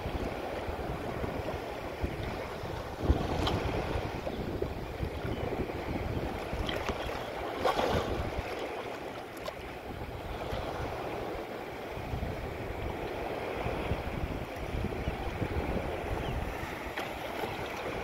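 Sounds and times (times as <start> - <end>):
waves washing and splashing: 0.0 - 18.0
wind buffeting microphone: 0.0 - 18.0.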